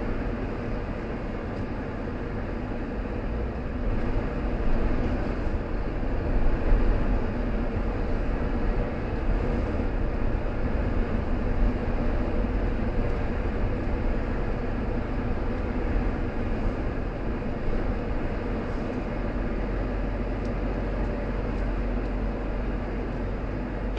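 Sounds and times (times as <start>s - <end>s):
car driving on road: 0.0s - 23.9s.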